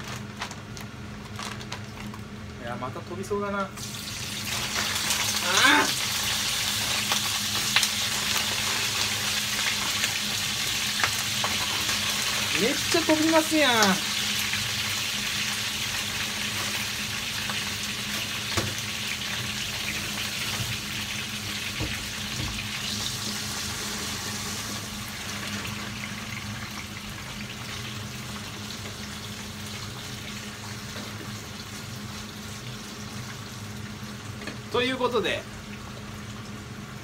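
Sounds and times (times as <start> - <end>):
fries sizzling in hot oil: 0.0 - 1.3, 2.2 - 37.0.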